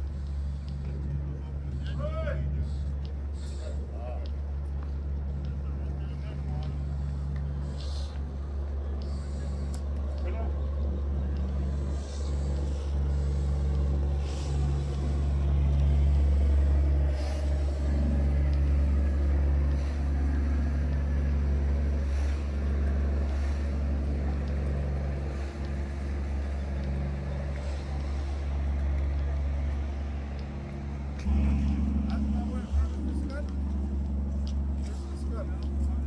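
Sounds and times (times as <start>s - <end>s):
engine droning at low revs: 0.0s - 36.0s.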